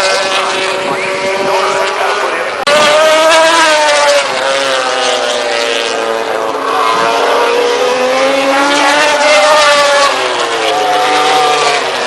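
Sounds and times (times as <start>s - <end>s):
racing motorcycle engine revving: 0.0s - 12.0s.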